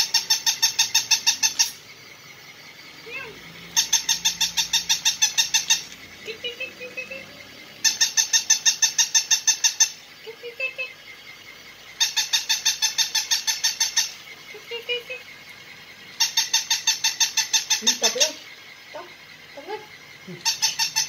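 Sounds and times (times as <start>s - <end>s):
toy puppy electronic yaps: 0.0s - 1.9s, 3.0s - 11.0s, 12.0s - 15.3s, 16.2s - 21.0s.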